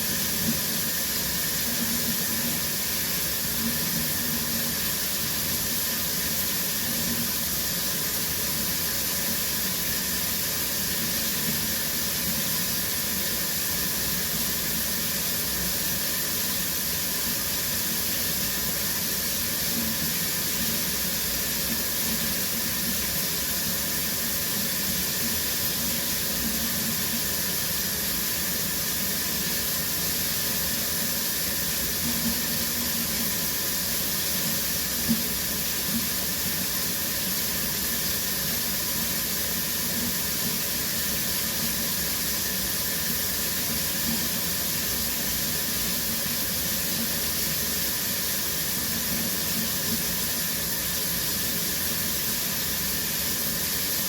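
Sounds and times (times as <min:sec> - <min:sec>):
shower running: 0:00.0 - 0:54.0.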